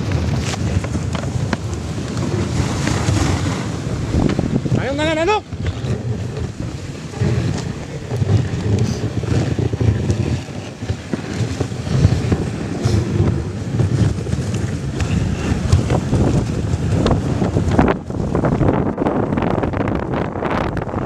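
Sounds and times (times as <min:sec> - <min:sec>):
sled runners scraping over snow: 0:00.0 - 0:19.9
wind buffeting microphone: 0:00.0 - 0:21.0.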